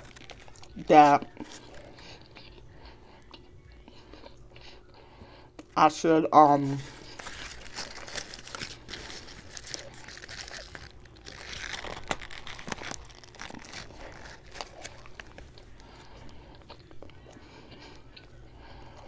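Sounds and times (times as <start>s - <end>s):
biting and chewing sandwich: 0.0s - 5.7s, 6.7s - 19.0s.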